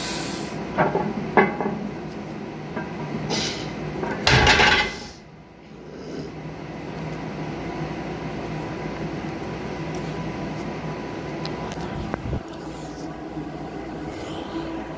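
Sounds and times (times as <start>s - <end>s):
ventilation hum: 0.0s - 14.9s.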